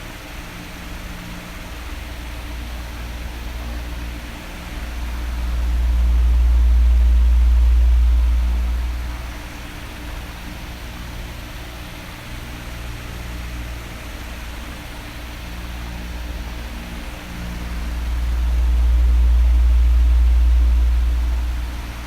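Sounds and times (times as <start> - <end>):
electric fan blowing: 0.0 - 22.0.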